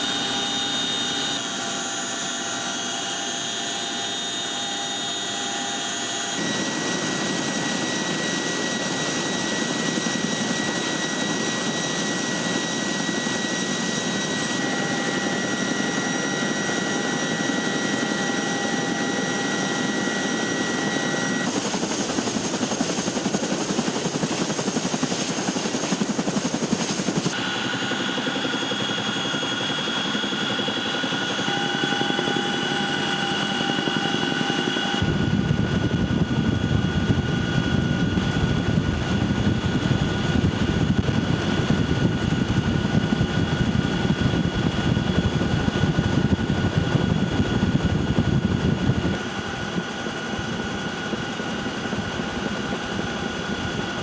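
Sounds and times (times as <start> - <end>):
helicopter rotor beat: 0.0 - 54.0
helicopter turbine whine: 0.0 - 54.0.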